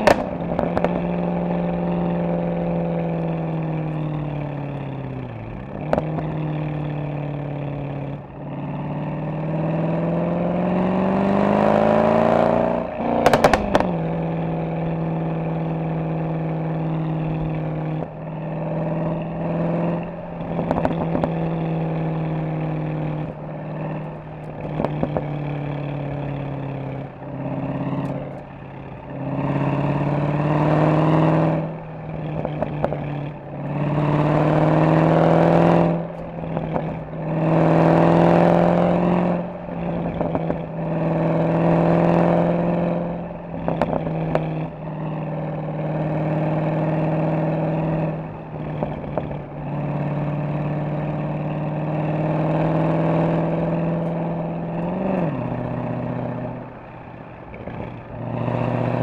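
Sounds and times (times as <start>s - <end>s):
exhaust crackles: 0.0s - 11.1s, 11.7s - 59.0s
car engine accelerating: 0.0s - 59.0s.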